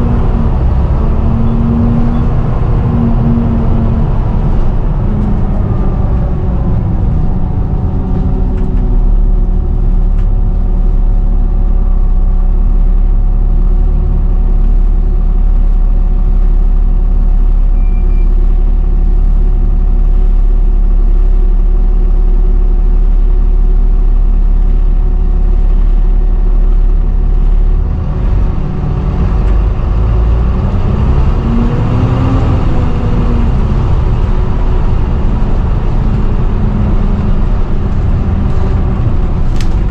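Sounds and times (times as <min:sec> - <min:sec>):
bus engine whining drone: 0:00.0 - 0:39.9.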